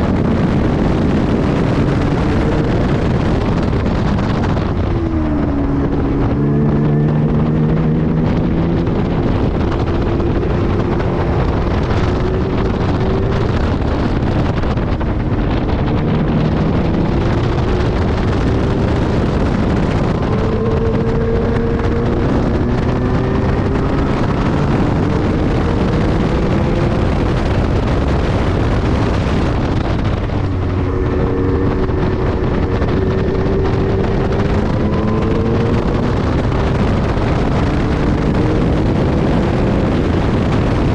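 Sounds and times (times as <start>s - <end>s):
car engine accelerating through gears: 0.0s - 40.9s
wind buffeting on microphone: 0.0s - 40.9s.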